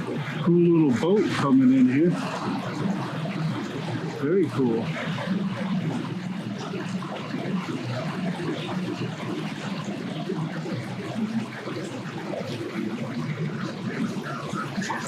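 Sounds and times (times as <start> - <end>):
outboard motor humming: 0.0 - 15.0
water noise: 0.0 - 15.0.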